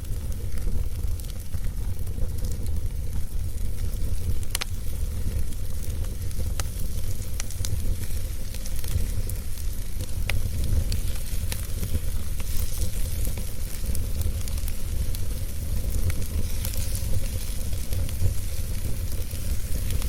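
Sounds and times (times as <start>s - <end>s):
low rumble and hiss: 0.0s - 20.0s
wood fire crackling: 0.0s - 20.0s.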